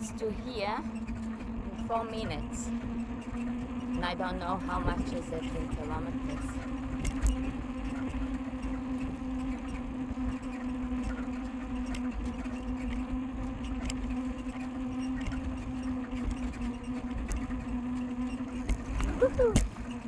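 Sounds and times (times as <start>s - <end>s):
bicycle droning hum: 0.0s - 20.0s.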